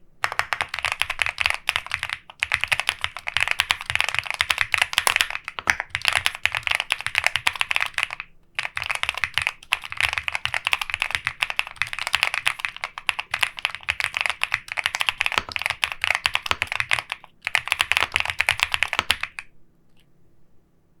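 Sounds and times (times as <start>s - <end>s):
mechanical keyboard typing: 0.2s - 20.0s.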